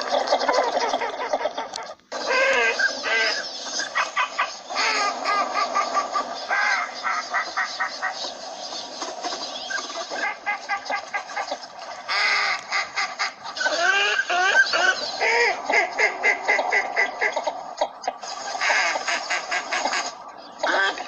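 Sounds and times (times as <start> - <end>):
ducks calling: 0.0 - 21.0.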